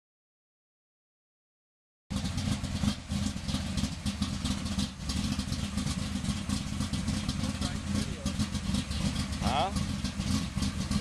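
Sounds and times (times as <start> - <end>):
car engine idling: 2.1 - 11.0.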